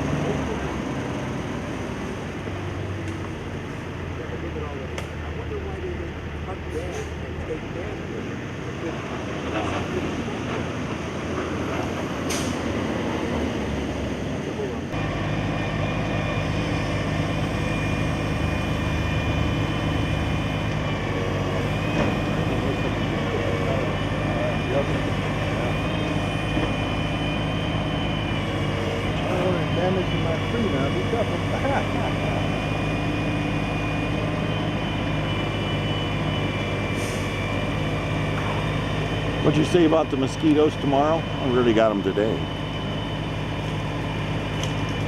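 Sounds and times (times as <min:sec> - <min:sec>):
large engine running: 0:00.0 - 0:45.0.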